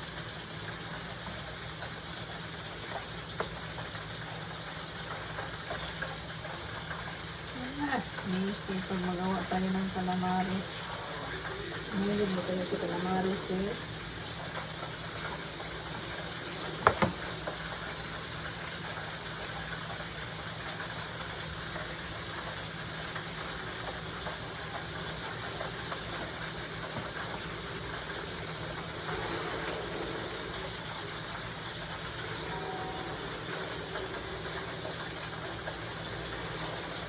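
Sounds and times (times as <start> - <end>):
food frying in hot oil: 0.0 - 37.0.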